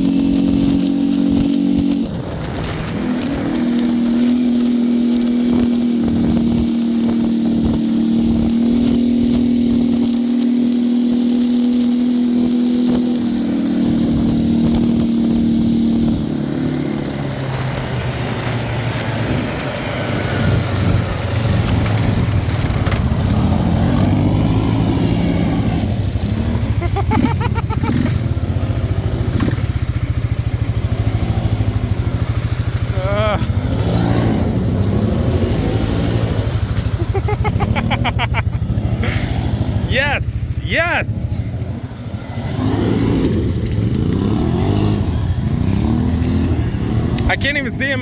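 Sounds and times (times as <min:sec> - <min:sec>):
atv engine running hard: 0:00.0 - 0:48.0.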